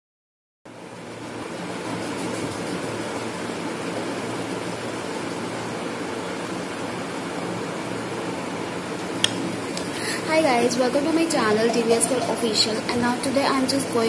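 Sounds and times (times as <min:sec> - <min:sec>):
faint low hum: 0:00.7 - 0:14.0
steady rushing noise: 0:01.1 - 0:14.0.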